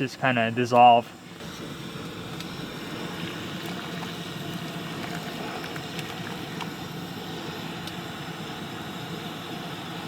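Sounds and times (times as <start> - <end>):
fire crackles: 0.6 - 10.0
fire rushing with hum: 1.1 - 10.0.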